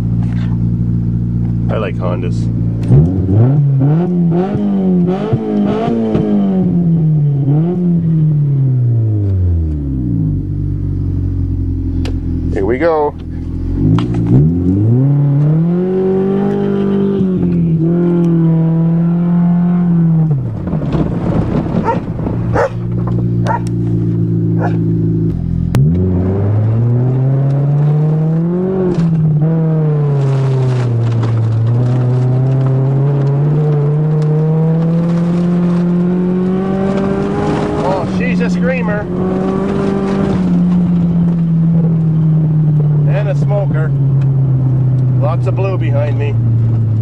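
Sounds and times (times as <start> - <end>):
car engine revving through gears: 0.0 - 47.0.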